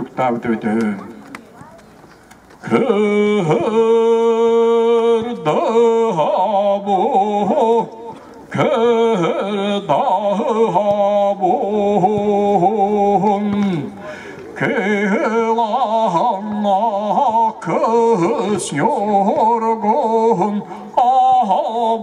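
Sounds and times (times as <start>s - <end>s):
man singing unaccompanied: 2.6s - 22.0s.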